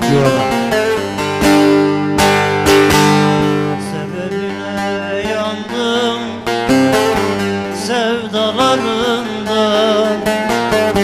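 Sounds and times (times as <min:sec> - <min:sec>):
plucked long-necked lute melody: 0:00.0 - 0:11.0.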